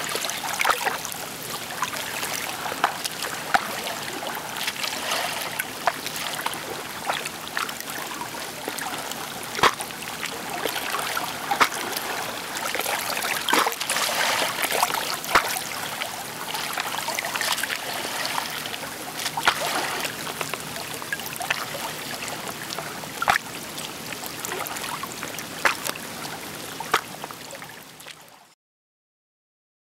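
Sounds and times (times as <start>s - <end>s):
small waves lapping on shore: 0.0s - 28.4s.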